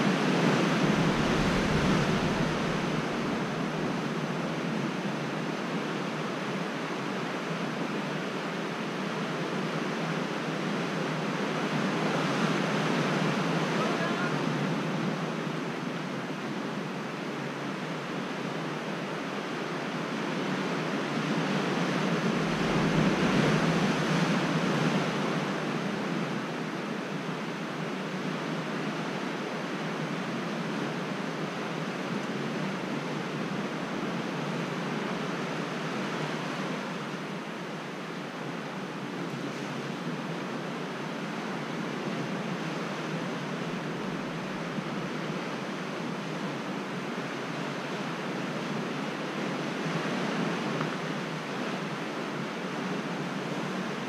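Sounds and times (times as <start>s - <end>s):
ocean surf washing: 0.0s - 54.0s.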